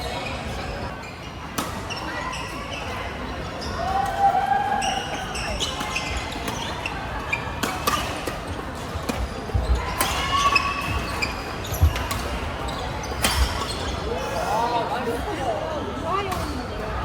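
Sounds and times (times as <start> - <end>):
shoes squeaking on floor: 0.0 - 3.8, 4.8 - 14.6.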